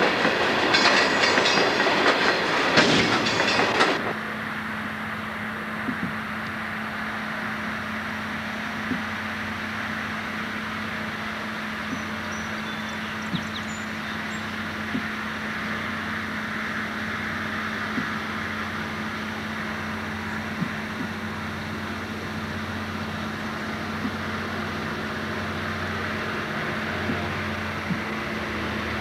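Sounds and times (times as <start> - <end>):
locomotive engine drone: 0.0 - 29.0.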